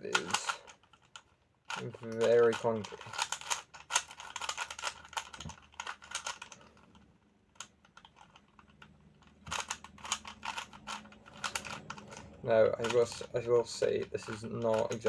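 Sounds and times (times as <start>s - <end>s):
plastic cube clacking: 0.0s - 15.0s.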